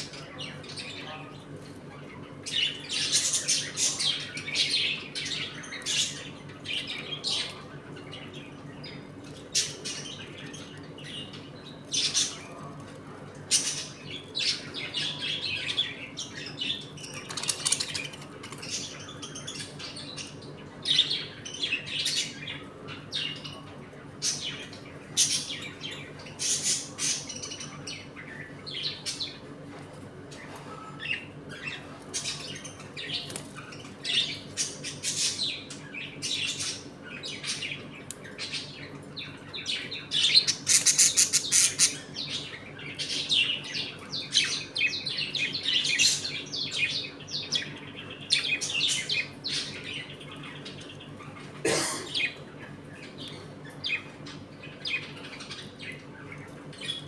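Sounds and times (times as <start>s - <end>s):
budgerigars chirping and chattering: 0.0s - 29.5s, 30.3s - 57.0s.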